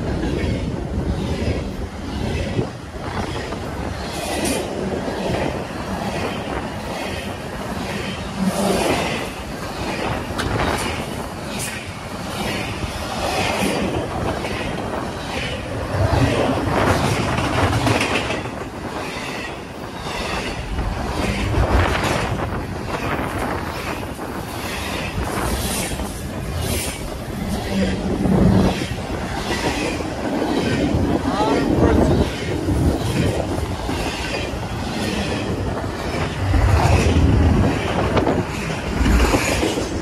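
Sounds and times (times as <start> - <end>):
freight train cars rumbling past: 0.0 - 40.0
wheels clicking over rail joints: 1.4 - 40.0.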